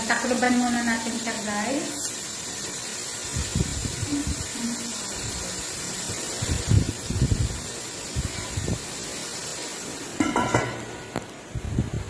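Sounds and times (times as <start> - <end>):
chicken wings sizzling in a pot: 0.0 - 12.0.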